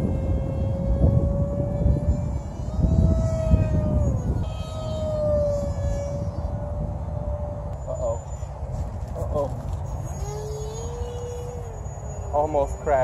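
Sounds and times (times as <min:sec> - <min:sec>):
model plane motor whining: 0:00.0 - 0:13.0
wind rumble on microphone: 0:00.0 - 0:13.0.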